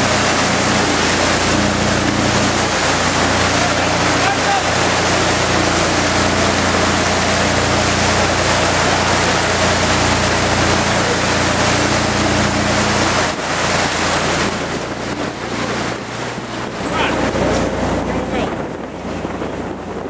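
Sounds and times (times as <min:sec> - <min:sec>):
boat engine hum: 0:00.0 - 0:20.0
rush of wind and water: 0:00.0 - 0:20.0.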